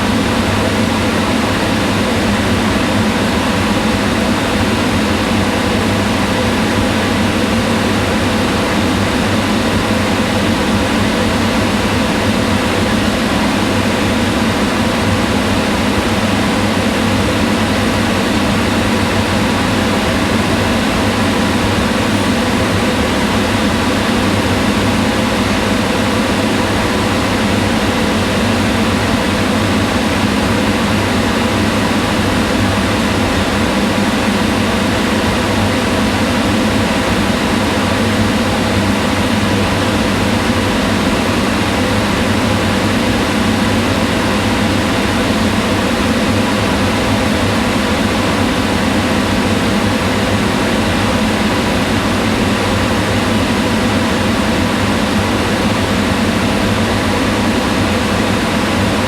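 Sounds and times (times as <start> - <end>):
range hood fan whirring: 0.0 - 59.0.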